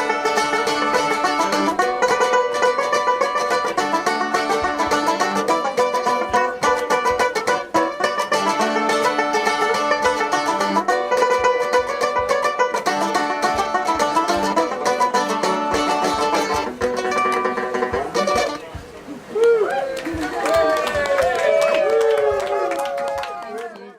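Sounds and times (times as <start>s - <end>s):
acoustic band playing bluegrass: 0.0s - 22.7s.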